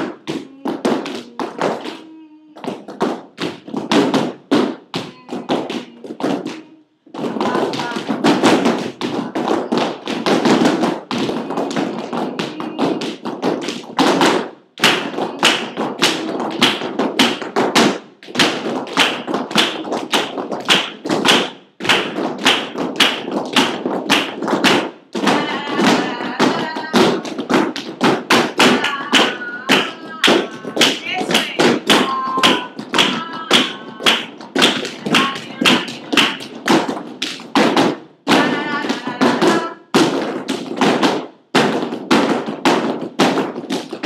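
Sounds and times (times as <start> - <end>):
flamenco shoes stamping on floor: 0.0 - 44.0.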